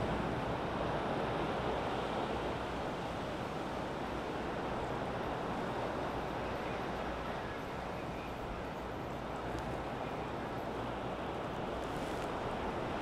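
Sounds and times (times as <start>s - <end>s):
steady rushing outdoor ambience: 0.0s - 13.0s.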